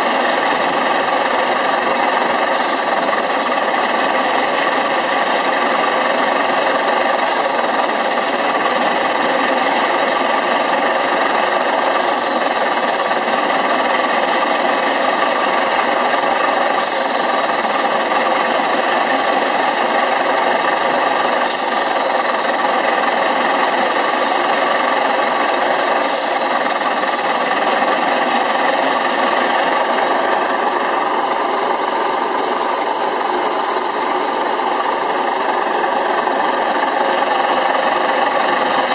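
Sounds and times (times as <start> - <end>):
steam engine clattering: 0.0 - 38.9.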